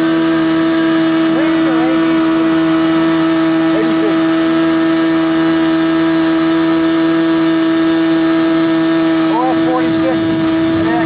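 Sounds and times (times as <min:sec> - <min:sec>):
model airplane engine droning: 0:00.0 - 0:11.0.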